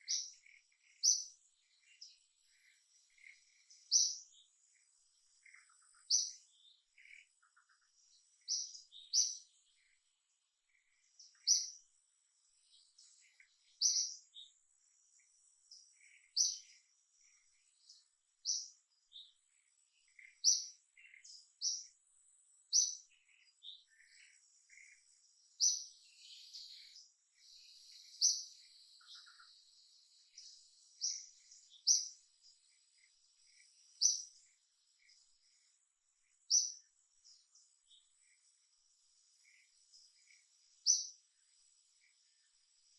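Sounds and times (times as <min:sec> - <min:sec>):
bird high chirp call: 0:00.0 - 0:10.0, 0:10.7 - 0:11.9, 0:12.7 - 0:14.6, 0:15.2 - 0:19.4, 0:20.0 - 0:22.0, 0:22.7 - 0:35.7, 0:36.3 - 0:38.4, 0:39.4 - 0:41.3
faint bird chirps: 0:00.0 - 0:42.9.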